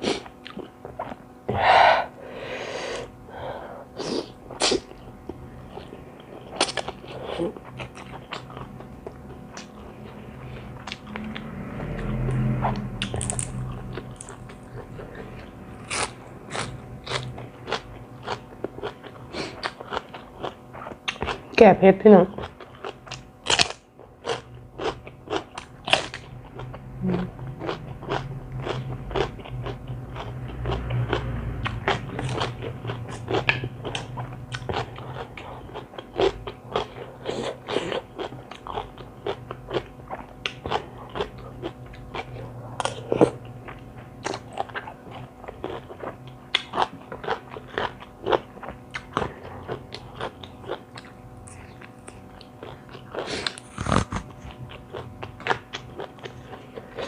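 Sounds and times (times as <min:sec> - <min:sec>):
person chewing and crunching: 0:00.0 - 0:01.4, 0:04.2 - 0:21.6, 0:22.3 - 0:57.0.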